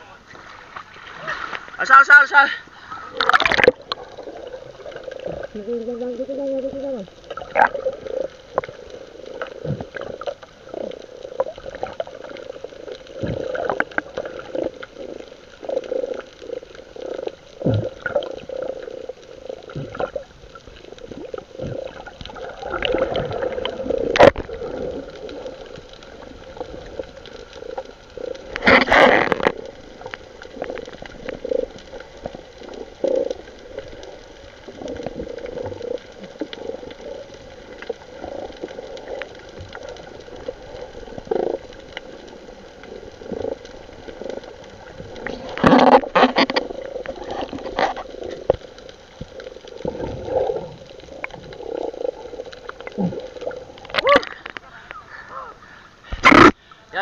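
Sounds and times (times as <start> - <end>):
water gurgling and splashing: 0.0 - 57.0.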